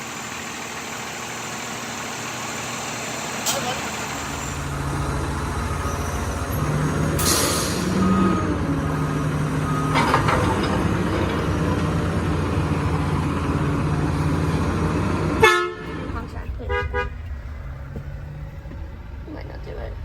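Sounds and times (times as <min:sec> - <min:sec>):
garbage truck engine running: 0:00.0 - 0:20.0.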